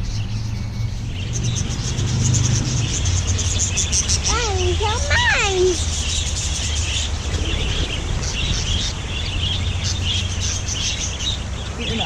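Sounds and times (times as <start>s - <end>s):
budgerigars chattering and chirping: 0.0s - 12.0s
steady low rumble: 0.1s - 11.8s.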